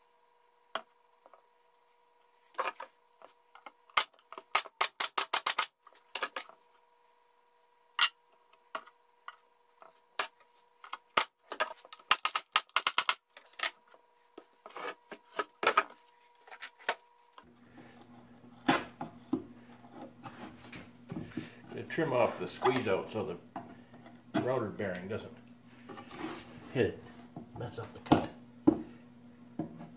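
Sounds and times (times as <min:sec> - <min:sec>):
steady low hum: 0:05.8 - 0:29.9.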